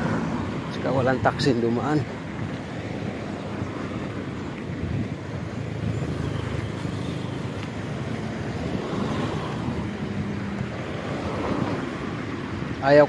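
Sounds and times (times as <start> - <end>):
vehicle engines in slow traffic: 0.0 - 13.0.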